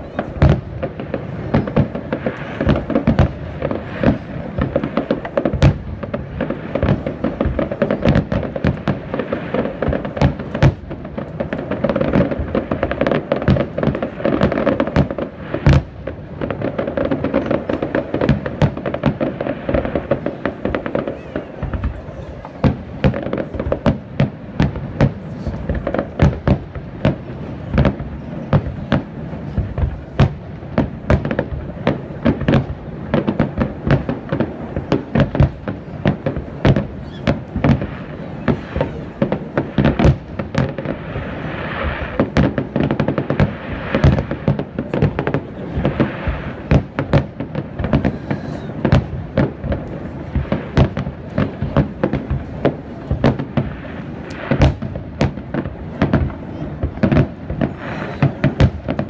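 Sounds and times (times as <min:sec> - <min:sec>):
fireworks bursting: 0:00.0 - 0:59.0
fireworks crackling: 0:00.0 - 0:59.0.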